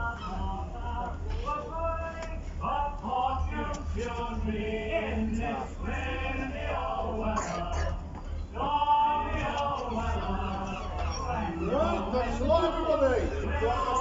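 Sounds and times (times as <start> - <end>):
low steady rumble: 0.0 - 14.0
men singing together: 0.0 - 14.0.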